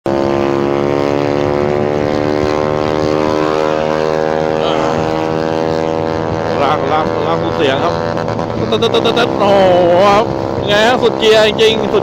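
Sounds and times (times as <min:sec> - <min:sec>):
scooter engine droning: 0:00.1 - 0:11.0.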